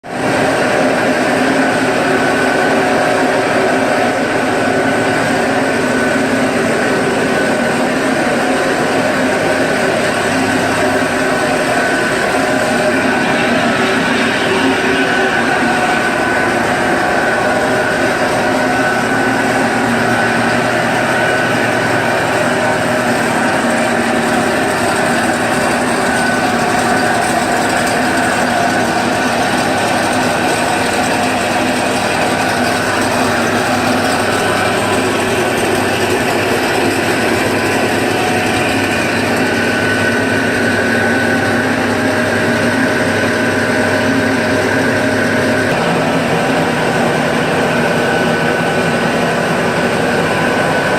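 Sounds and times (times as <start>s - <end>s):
grinding machine running: 0.0s - 50.9s.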